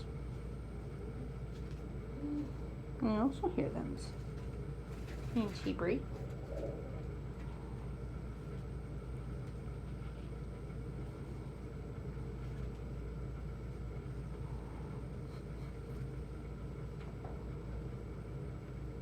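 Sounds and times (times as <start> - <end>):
low background hum with tones: 0.0 - 19.0.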